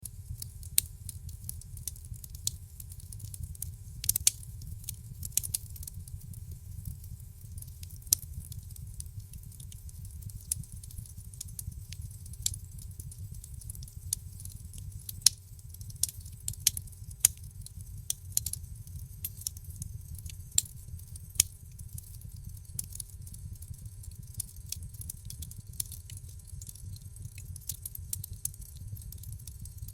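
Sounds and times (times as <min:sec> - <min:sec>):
low rumble of flame: 0:00.0 - 0:29.9
firewood crackling: 0:00.1 - 0:29.9.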